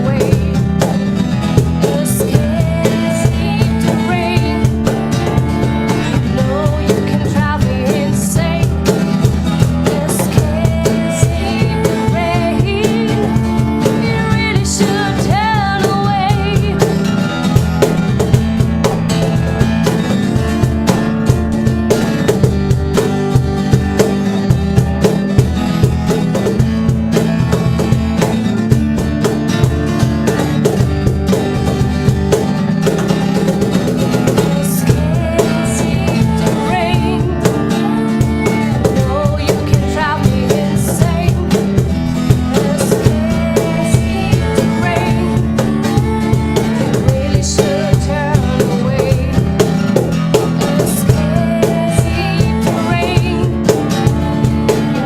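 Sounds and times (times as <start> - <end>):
drum kit steady beat: 0.0 - 55.0
electric guitar playing: 0.0 - 55.0.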